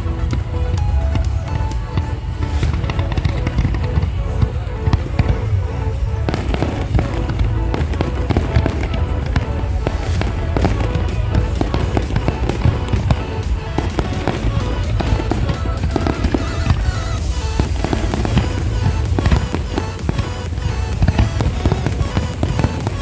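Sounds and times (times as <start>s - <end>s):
fireworks bangs and crackles: 0.0s - 23.0s
loud music with heavy bass: 0.0s - 23.0s.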